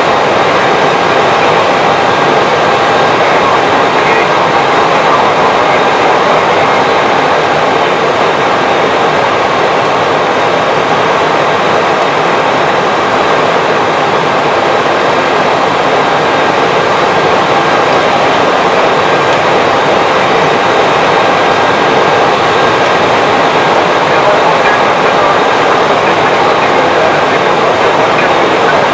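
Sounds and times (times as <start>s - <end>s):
faint steady tones: 0.0s - 28.9s.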